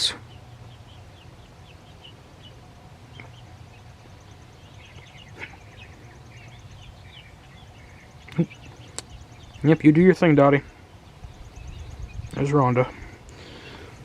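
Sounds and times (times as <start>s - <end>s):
bird chirps: 0.0s - 14.0s
low background hum: 0.0s - 14.0s.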